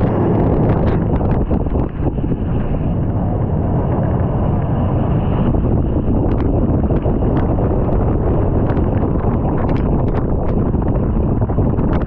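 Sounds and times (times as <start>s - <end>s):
roller coaster train rumble: 0.0s - 12.0s
wind buffeting microphone: 0.0s - 12.0s.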